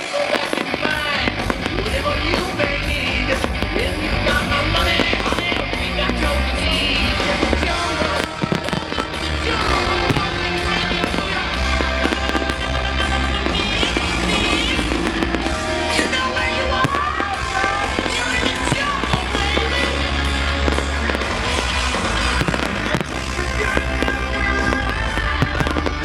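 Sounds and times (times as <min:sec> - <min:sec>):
firework bangs and crackles: 0:00.0 - 0:26.0
rock music over loudspeakers: 0:00.0 - 0:26.0.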